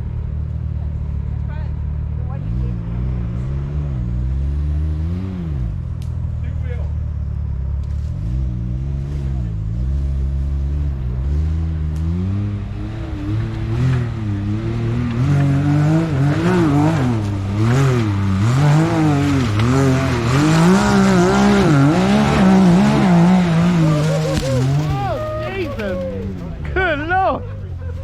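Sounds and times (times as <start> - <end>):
utv engine revving: 0.0 - 28.0.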